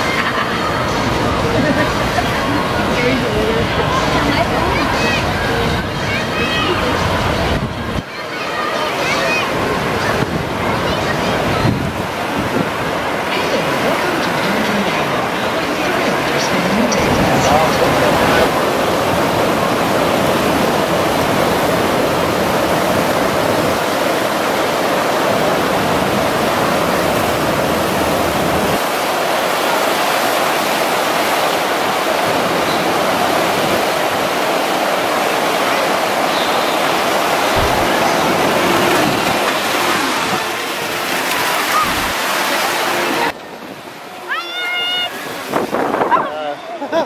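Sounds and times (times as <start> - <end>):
water rushing: 0.0 - 47.0.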